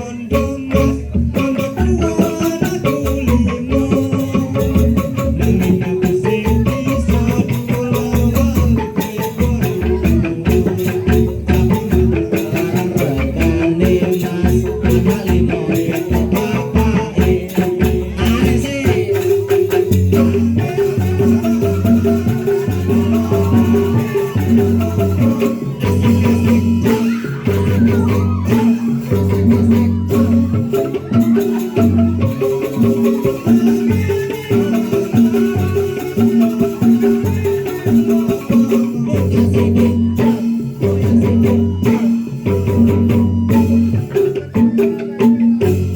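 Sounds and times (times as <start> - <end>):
instrumental music with fast percussion: 0.0 - 45.9.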